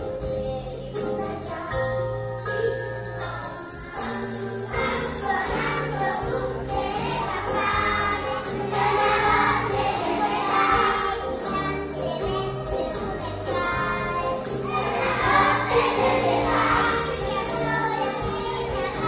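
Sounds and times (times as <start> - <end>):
instrumental music: 0.0 - 19.0
children singing: 3.7 - 19.0.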